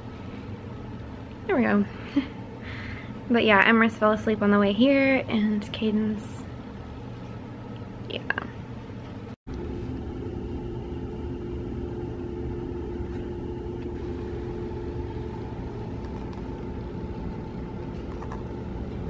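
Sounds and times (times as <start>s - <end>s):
faint humming tone: 0.0s - 19.0s
low mechanical rumble: 0.0s - 19.0s.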